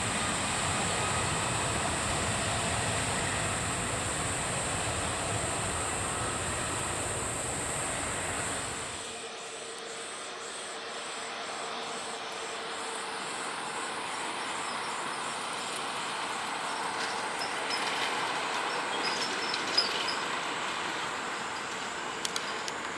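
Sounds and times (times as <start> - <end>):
jet engine noise: 0.0 - 22.9.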